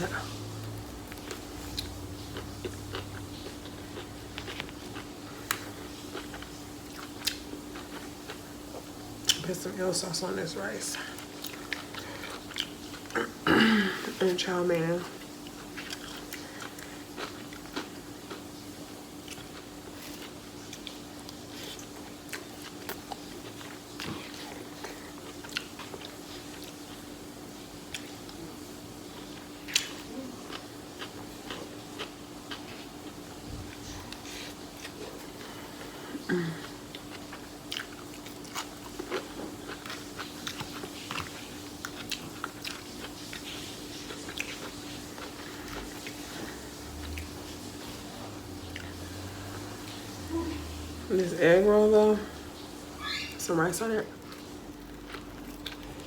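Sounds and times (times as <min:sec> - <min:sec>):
person chewing food: 0:00.0 - 0:09.4, 0:10.9 - 0:13.4, 0:15.2 - 0:50.9, 0:54.2 - 0:56.0
faint steady hum: 0:00.0 - 0:56.0.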